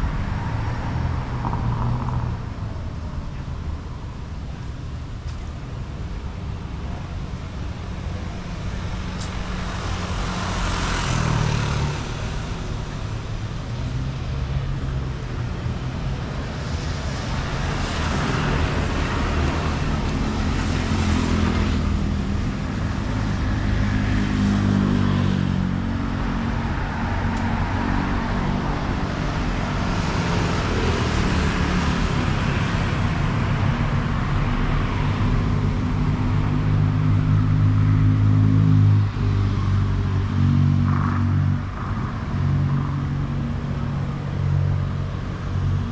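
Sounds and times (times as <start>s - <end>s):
low engine rumble of traffic: 0.0s - 45.9s
cars passing close by: 7.5s - 45.9s.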